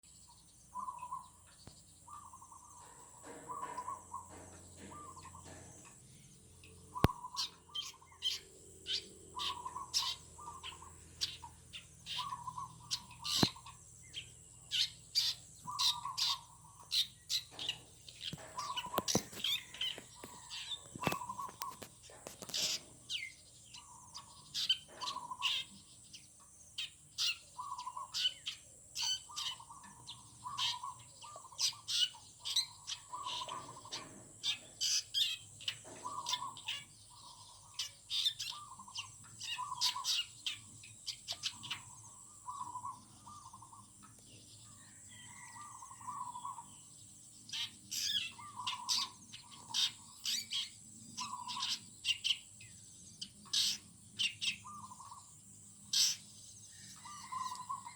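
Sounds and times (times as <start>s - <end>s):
birds chirping and trilling: 0.0s - 57.9s.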